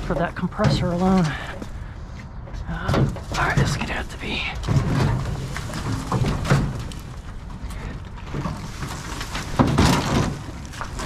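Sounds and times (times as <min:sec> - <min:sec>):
metal knocks scrapes and creaks: 0:00.0 - 0:11.0.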